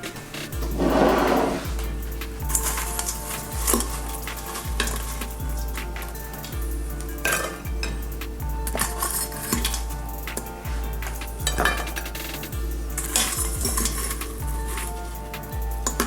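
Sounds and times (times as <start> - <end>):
background music with beat: 0.0 - 16.0
metal utensils clinking on dishes: 0.0 - 16.0.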